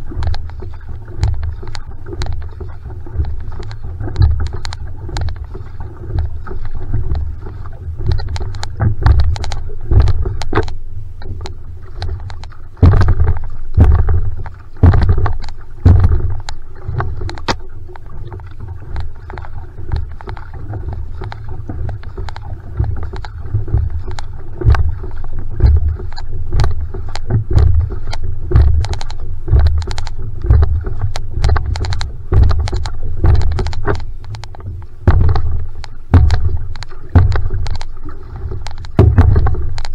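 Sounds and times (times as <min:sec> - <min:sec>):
paddle strokes splashing water: 0:00.0 - 0:39.9
water rushing along hull: 0:00.0 - 0:39.9.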